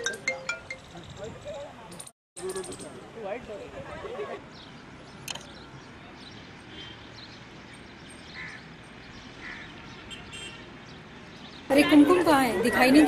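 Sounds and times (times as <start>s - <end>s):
open-air background hum: 0.0s - 13.0s.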